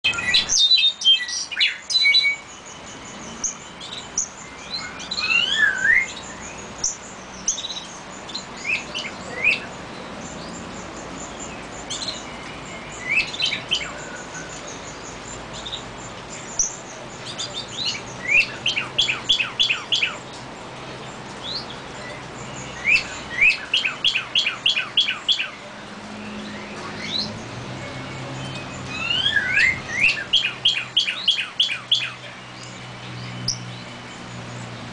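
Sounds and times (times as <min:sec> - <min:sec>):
small birds singing and chirping: 0:00.0 - 0:34.9.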